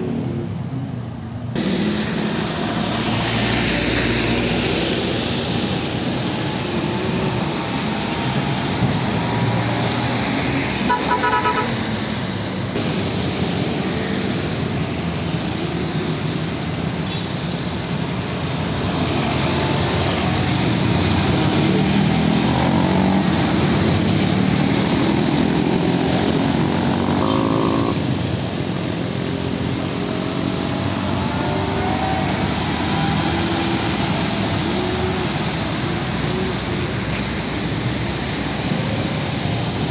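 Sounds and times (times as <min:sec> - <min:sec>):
diesel trucks passing: 0:00.0 - 0:39.9
road traffic on wet road: 0:00.0 - 0:39.9.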